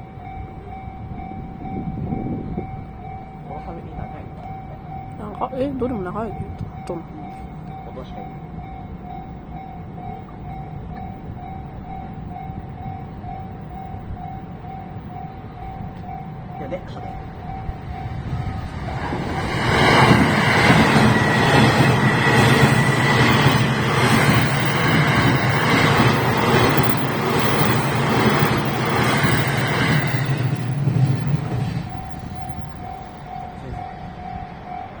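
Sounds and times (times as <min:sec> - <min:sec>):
level crossing bell ringing: 0:00.0 - 0:18.8, 0:19.8 - 0:35.0
train wheels rumbling and clacking: 0:00.0 - 0:35.0.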